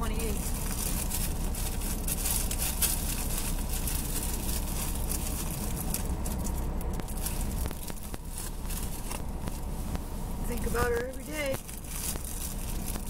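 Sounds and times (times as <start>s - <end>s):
car engine idling: 0.0s - 13.0s
rustling handling noise: 0.0s - 13.0s.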